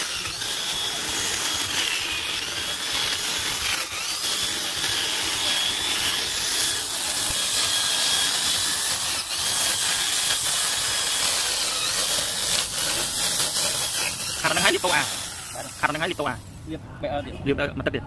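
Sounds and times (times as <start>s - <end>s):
drill motor whine: 0.0s - 16.5s
sanding disc scraping wood: 0.0s - 16.5s.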